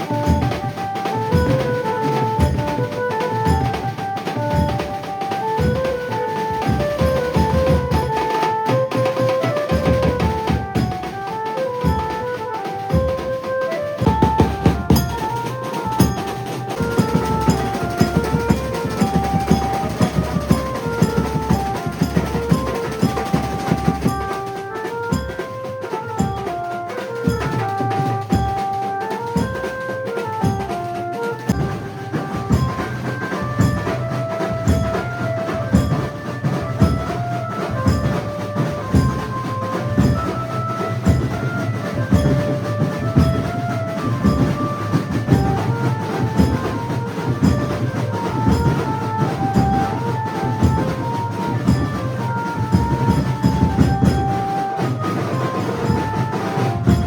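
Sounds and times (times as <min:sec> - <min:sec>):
fast dense drumming: 0:00.0 - 0:57.0.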